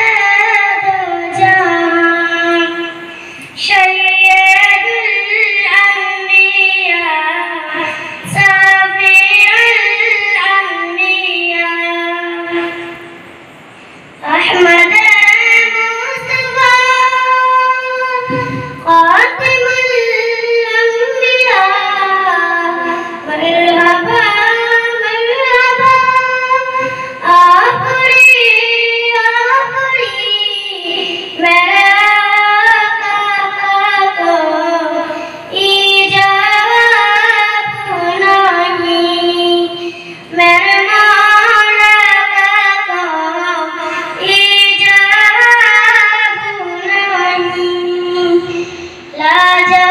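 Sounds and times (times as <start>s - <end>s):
girl singing unaccompanied: 0.0s - 13.0s, 14.2s - 49.9s.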